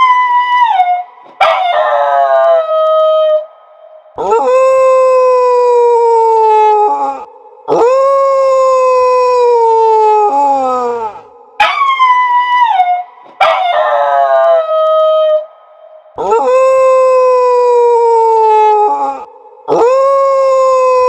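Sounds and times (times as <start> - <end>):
dog howling: 0.0 - 3.5, 4.2 - 15.6, 16.2 - 21.0.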